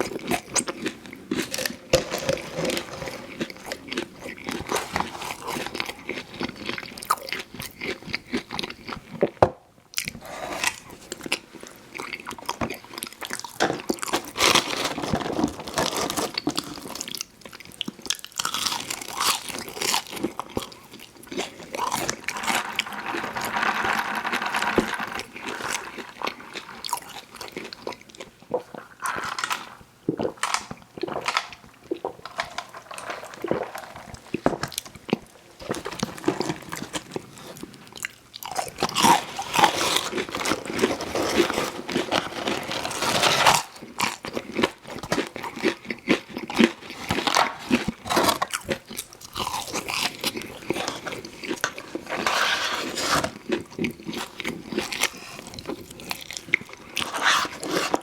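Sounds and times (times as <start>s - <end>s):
crunchy chewing: 10.0s - 23.7s, 24.4s - 58.0s.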